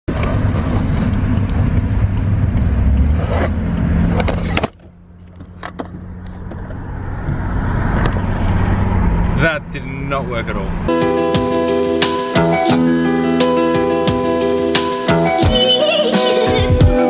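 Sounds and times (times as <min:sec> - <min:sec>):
low vehicle rumble: 0:00.1 - 0:15.0.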